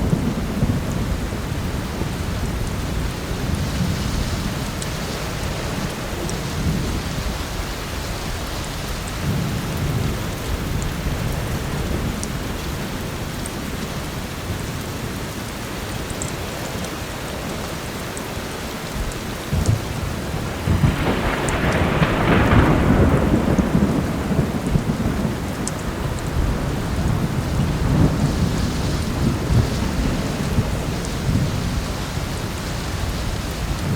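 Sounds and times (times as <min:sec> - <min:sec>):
rolling thunder: 0:00.0 - 0:13.3, 0:19.0 - 0:33.9
heavy rain: 0:00.0 - 0:33.9.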